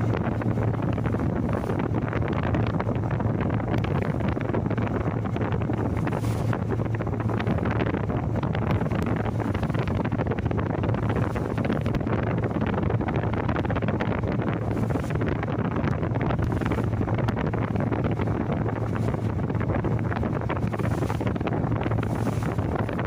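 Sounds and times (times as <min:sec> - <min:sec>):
constant low hum: 0:00.0 - 0:23.0
sea waves: 0:00.0 - 0:23.0
wind buffeting microphone: 0:00.0 - 0:23.0.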